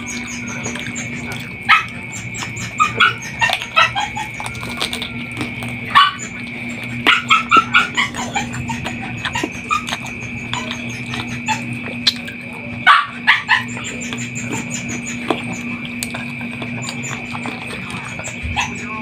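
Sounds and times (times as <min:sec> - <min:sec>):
steady hum with high tone: 0:00.0 - 0:19.0
wet chewing and lip smacking: 0:00.0 - 0:19.0.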